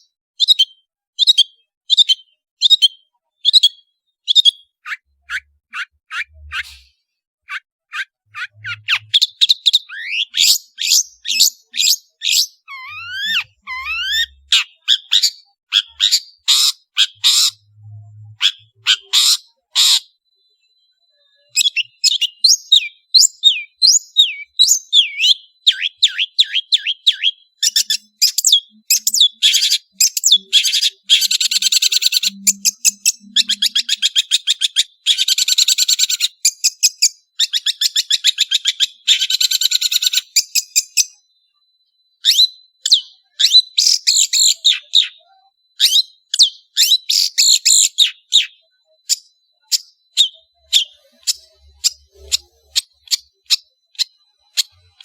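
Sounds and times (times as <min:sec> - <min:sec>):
bird singing with whistles and trills: 0:00.0 - 0:55.0.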